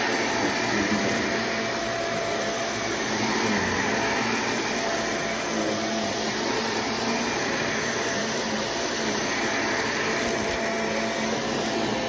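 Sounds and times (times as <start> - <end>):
vacuum cleaner on carpet: 0.0 - 12.0.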